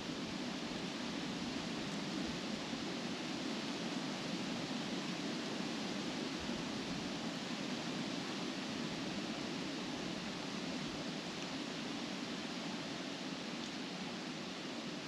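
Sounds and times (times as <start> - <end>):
wind through trees: 0.0 - 15.0.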